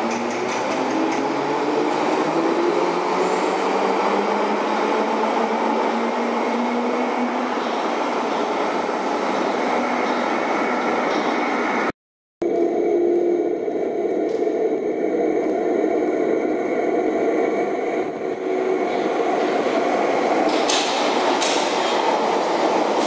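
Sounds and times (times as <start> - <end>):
underground train rumbling: 0.0 - 23.0.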